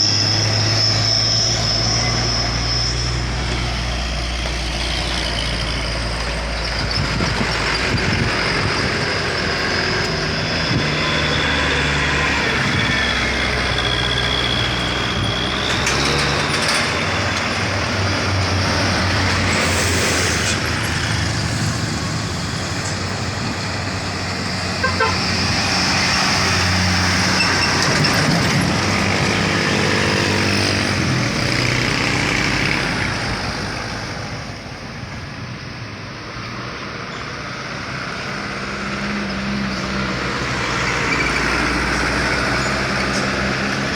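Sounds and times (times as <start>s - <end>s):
heavy vehicle engines passing: 0.0s - 43.9s
road noise: 0.0s - 43.9s.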